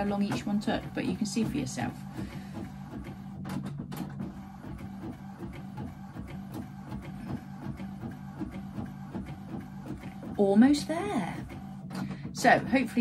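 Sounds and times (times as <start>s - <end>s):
printer carriage moving back and forth: 0.0s - 13.0s.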